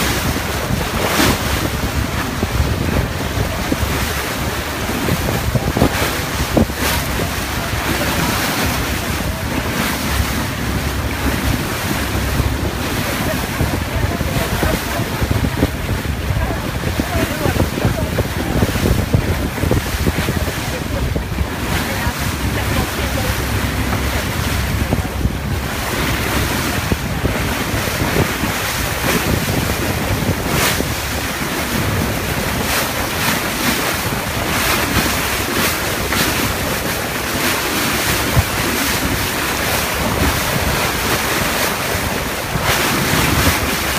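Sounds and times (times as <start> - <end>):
water rushing past motorboat: 0.0 - 43.9
wind buffeting microphone: 0.0 - 43.9.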